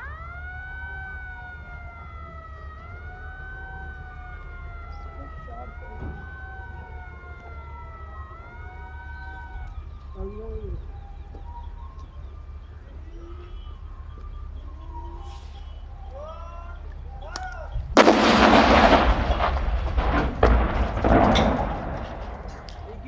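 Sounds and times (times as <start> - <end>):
warning siren wailing: 0.0 - 23.0.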